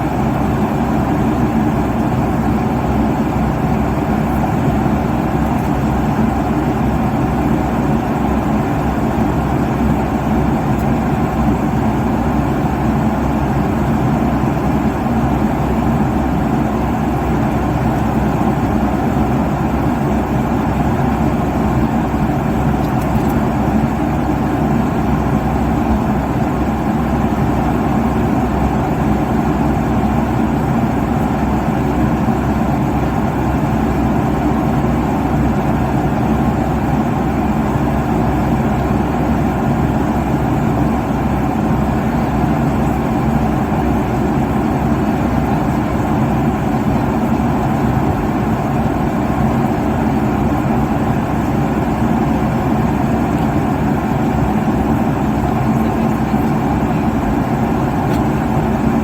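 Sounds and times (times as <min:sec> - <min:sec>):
faint steady hums: 0:00.0 - 0:59.0
jet engine and airflow roar: 0:00.0 - 0:59.0.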